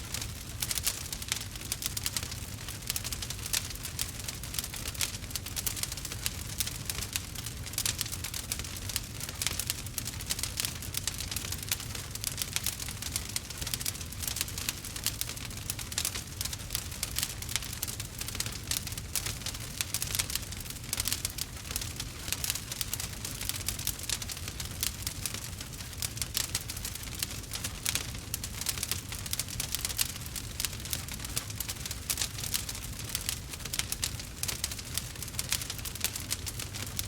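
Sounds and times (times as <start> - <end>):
low steady fire rumble: 0.0 - 37.0
wood fire crackling and popping: 0.0 - 37.0.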